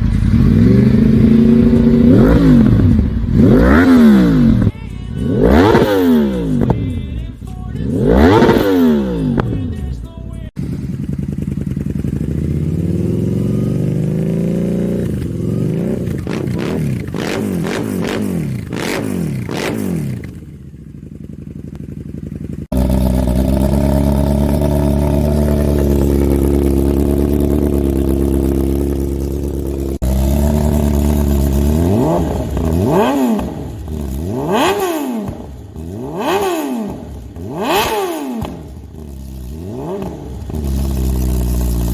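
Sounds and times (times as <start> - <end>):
motorcycle engines revving: 0.0 - 9.8, 10.5 - 41.9.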